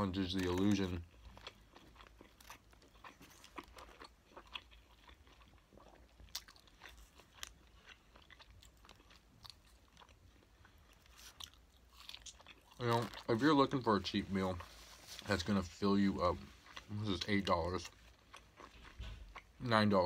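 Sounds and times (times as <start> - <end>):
person chewing: 0.1 - 19.7.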